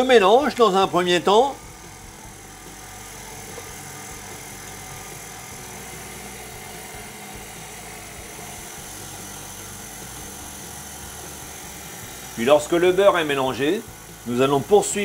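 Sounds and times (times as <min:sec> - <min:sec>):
stand mixer motor running: 0:00.0 - 0:15.0.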